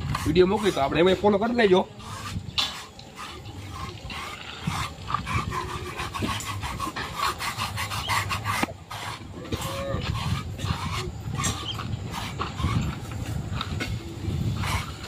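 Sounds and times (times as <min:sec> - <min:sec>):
curry comb scraping horse coat: 0:00.0 - 0:15.0.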